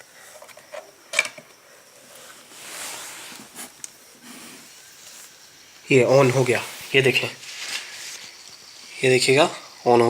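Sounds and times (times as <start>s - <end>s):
soft hiss: 0.0s - 10.0s.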